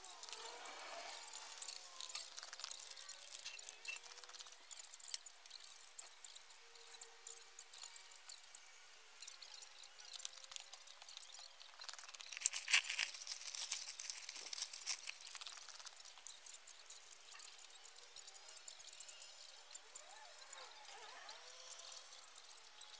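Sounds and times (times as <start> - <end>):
metal camera crane clicks and clinks: 0.0 - 22.9.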